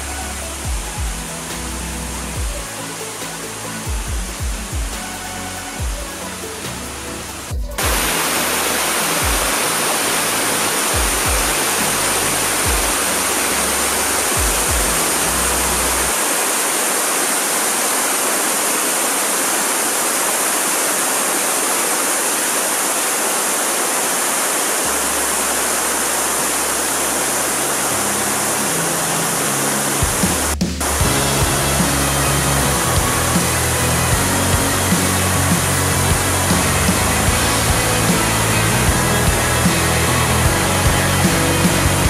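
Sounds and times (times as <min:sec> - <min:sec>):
waterfall rushing over rocks: 0:00.0 - 0:42.0.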